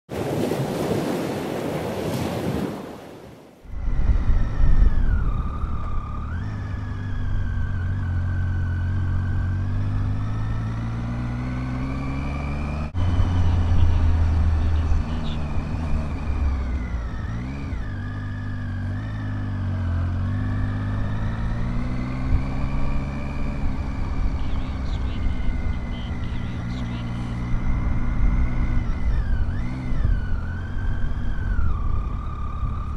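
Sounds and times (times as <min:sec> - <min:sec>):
motorcycle engine running: 0:03.7 - 0:32.9.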